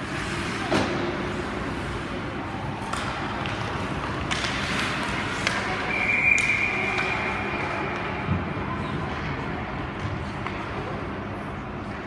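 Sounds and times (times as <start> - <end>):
skating and arena noise: 0.0 - 12.0.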